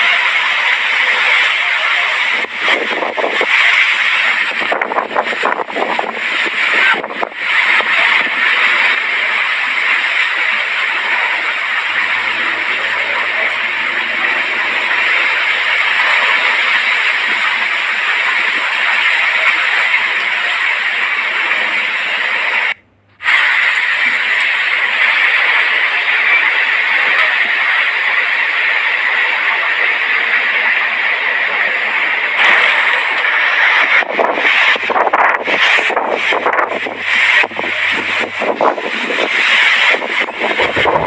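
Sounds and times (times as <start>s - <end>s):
strong gusty wind: 0.0s - 24.3s, 32.4s - 41.0s.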